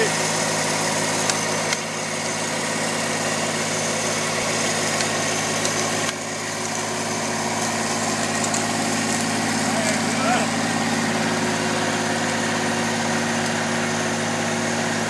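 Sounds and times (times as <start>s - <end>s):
tractor engine running steadily: 0.0s - 15.0s.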